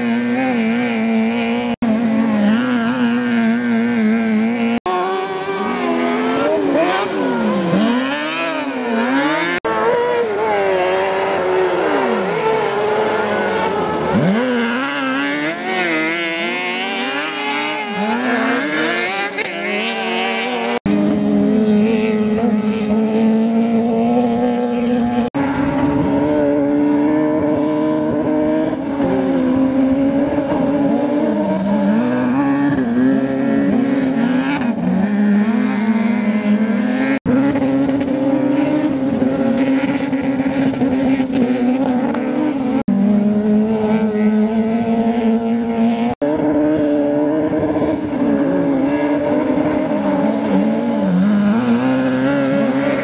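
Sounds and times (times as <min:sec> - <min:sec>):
racing car engines at high revs: 0:00.0 - 0:53.0.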